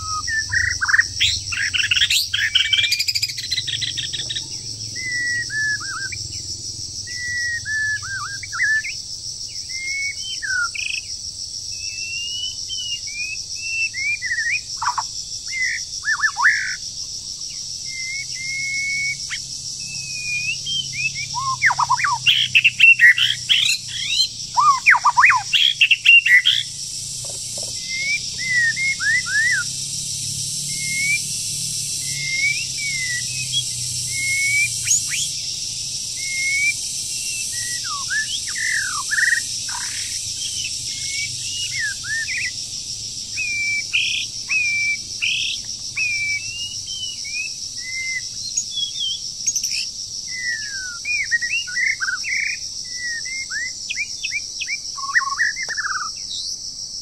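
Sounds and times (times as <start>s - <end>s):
songbird whistling: 0.0s - 11.1s, 11.7s - 16.8s, 17.4s - 42.6s, 43.2s - 56.5s
high insect drone: 0.0s - 57.0s.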